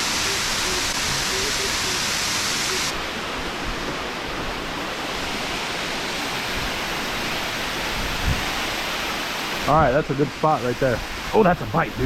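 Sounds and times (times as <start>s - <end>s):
water rushing through a dam: 0.0s - 12.0s.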